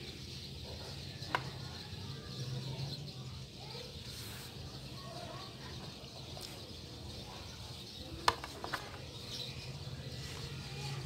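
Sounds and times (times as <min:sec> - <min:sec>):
faint chirping: 0:00.0 - 0:11.0.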